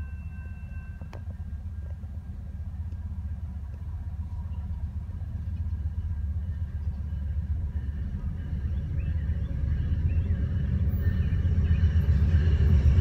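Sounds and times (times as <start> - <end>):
approaching train rumble: 0.0 - 13.0.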